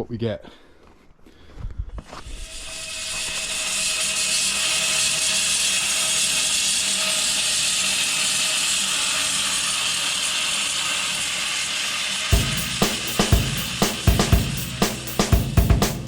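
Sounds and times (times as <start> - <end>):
bandsaw mill cutting log: 2.1 - 15.4.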